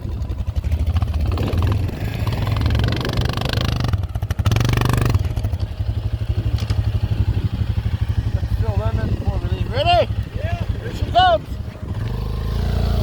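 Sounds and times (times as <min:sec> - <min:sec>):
atv engine running and revving: 0:00.0 - 0:13.0.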